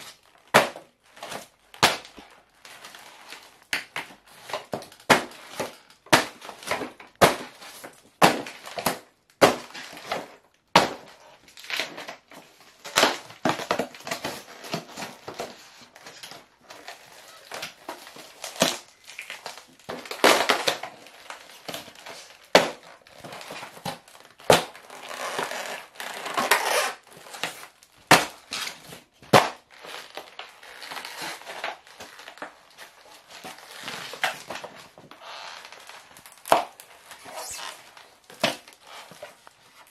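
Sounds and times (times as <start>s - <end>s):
foam cracking and crunching: 0.0s - 39.9s.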